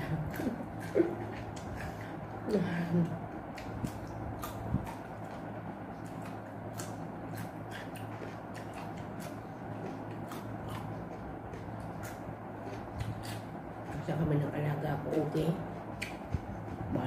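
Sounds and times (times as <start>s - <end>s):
crunchy chewing of cucumber: 0.0s - 17.0s
low hum: 0.0s - 17.0s.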